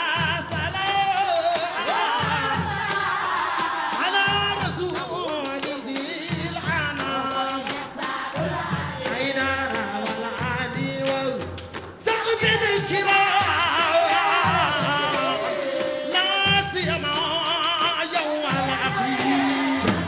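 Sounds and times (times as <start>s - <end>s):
devotional chant singing: 0.0s - 20.0s
drums beating low pattern: 0.1s - 20.0s.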